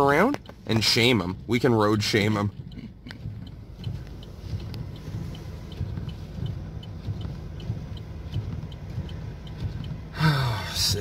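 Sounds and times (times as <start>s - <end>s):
car engine and road rumble: 0.0s - 11.0s
faint even ticking: 0.0s - 11.0s.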